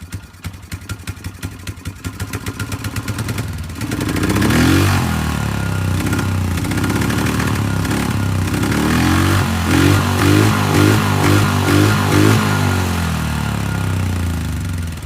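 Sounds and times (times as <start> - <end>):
atv engine idling and revving: 0.0 - 15.0.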